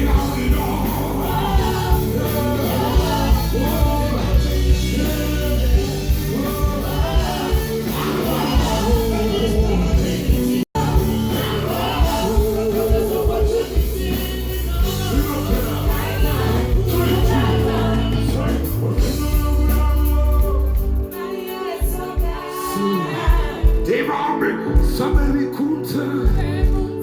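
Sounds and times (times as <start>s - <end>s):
music with singing and heavy bass: 0.0s - 27.0s.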